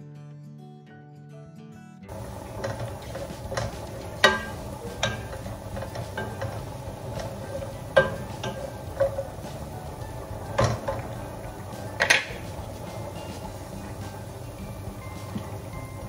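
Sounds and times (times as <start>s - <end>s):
food stirred in frying pan: 2.1s - 16.0s
wooden spoon knocking on pan: 2.1s - 16.0s.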